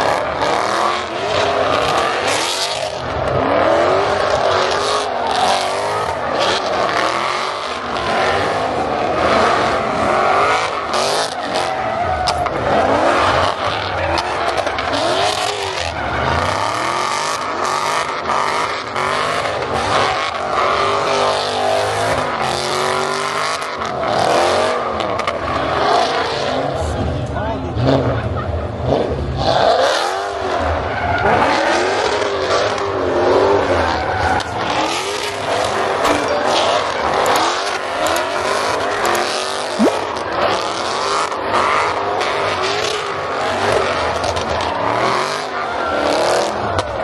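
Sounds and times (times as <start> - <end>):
tyres squealing and skidding: 0.0 - 26.7, 29.4 - 47.0
car engines revving hard: 0.0 - 47.0.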